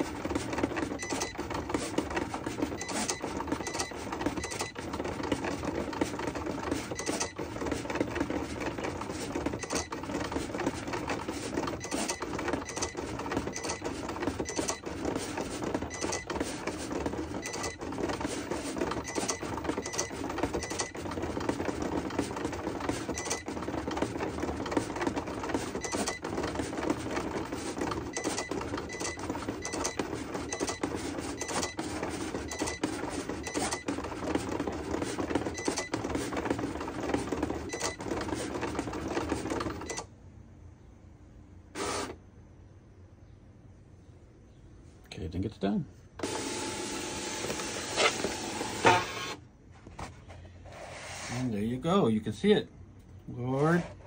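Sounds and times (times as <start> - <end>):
cutting machine motors whirring: 0.0 - 40.0, 41.8 - 42.2, 46.2 - 49.4.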